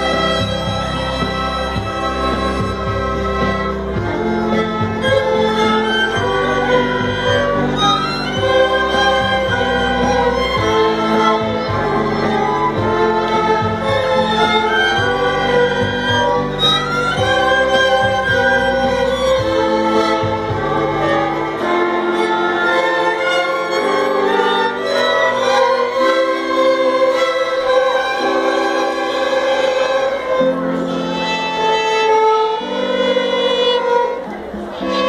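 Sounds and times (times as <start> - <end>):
violin orchestra slow piece: 0.0 - 35.0.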